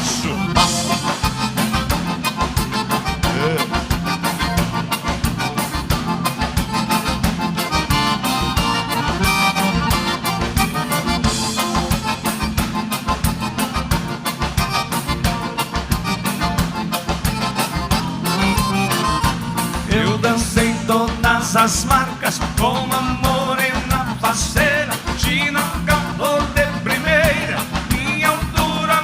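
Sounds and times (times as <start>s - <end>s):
accordion: 0.0s - 29.0s
dance band playing: 0.0s - 29.0s.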